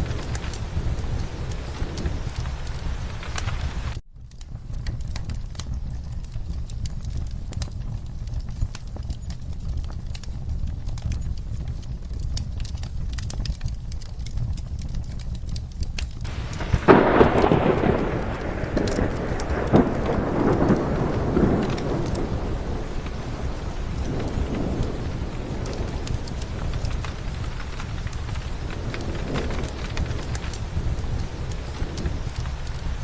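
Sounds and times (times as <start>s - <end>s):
thunder rumbling: 0.0s - 15.6s, 16.2s - 33.0s
steady rain: 0.0s - 33.0s
wood fire crackling: 0.0s - 33.0s.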